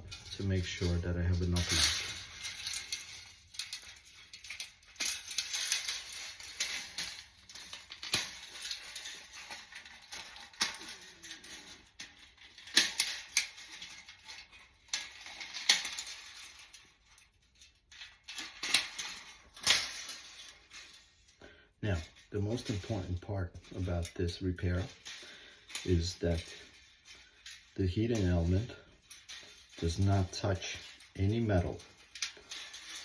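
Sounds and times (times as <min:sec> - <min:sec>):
light metal jingling: 0:00.0 - 0:17.4, 0:22.0 - 0:33.0.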